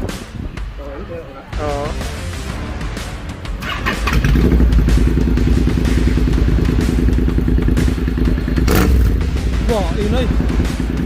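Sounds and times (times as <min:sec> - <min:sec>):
motorcycle engine running: 0:01.8 - 0:11.0.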